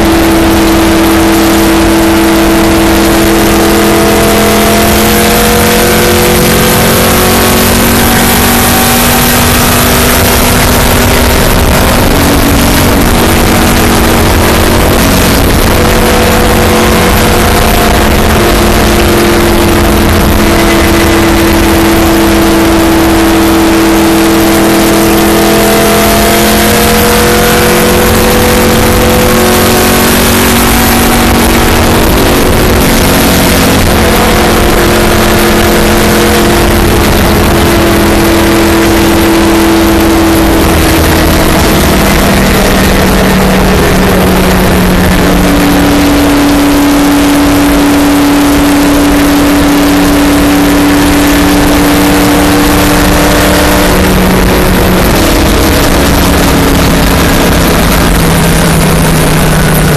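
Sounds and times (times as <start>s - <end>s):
car engine running hard: 0.0s - 59.9s
wind and road noise: 0.0s - 59.9s.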